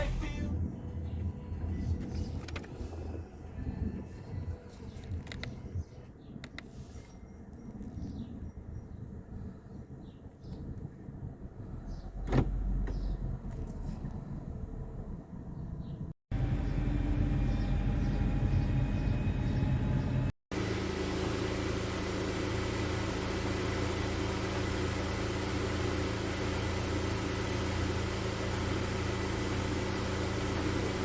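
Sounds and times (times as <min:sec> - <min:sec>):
car road and drivetrain drone: 0:00.0 - 0:08.4, 0:09.0 - 0:31.0.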